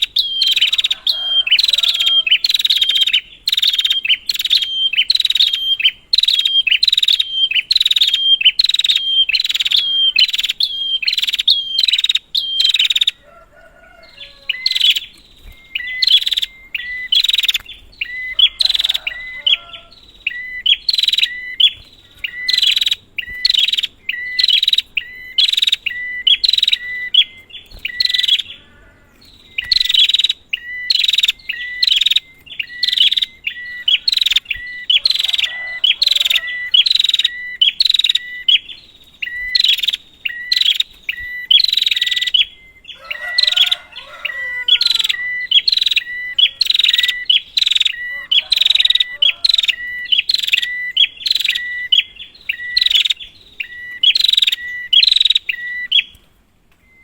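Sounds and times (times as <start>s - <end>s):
prinia calling harsh notes: 0.0s - 57.0s.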